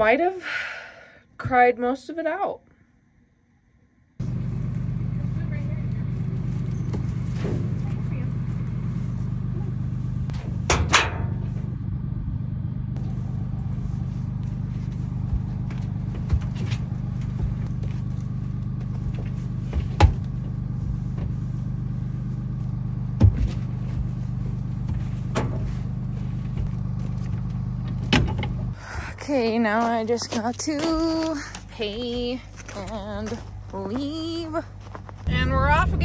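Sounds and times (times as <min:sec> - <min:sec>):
vehicle engine idling: 0:04.2 - 0:36.0.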